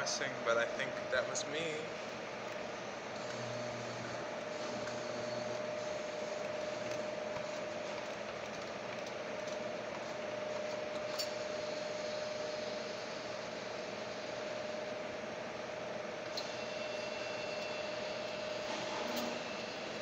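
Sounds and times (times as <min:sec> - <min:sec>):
claw machine humming: 0:00.0 - 0:20.0.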